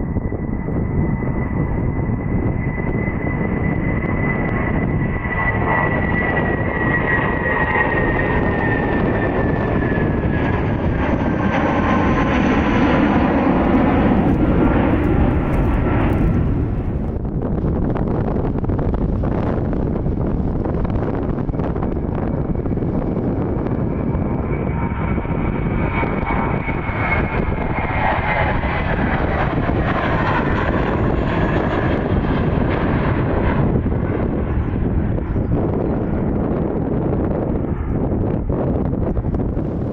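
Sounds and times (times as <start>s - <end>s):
jet engine rumble: 0.0s - 39.9s
jet engine whine: 0.0s - 39.9s.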